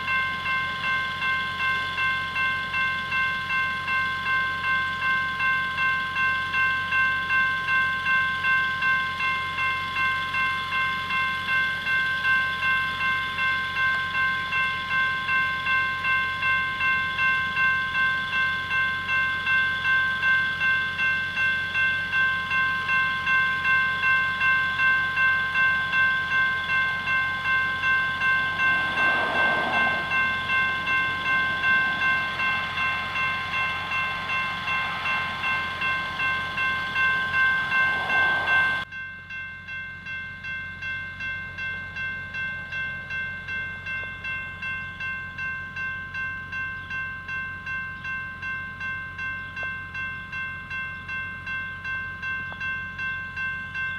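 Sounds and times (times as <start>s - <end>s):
crossing bell ringing: 0.0s - 53.9s
freight train passing: 0.0s - 53.9s.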